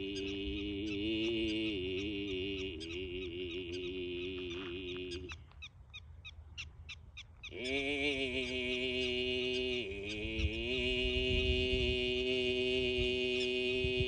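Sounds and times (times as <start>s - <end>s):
throat singing drone: 0.0s - 5.6s, 7.5s - 14.0s.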